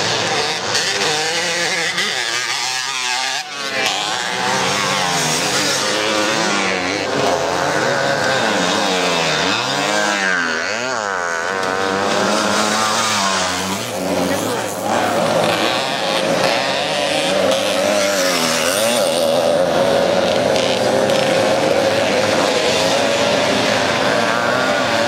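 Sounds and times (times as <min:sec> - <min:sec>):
motocross motorcycles racing: 0:00.0 - 0:25.0
motorcycle passing close by: 0:00.0 - 0:25.0.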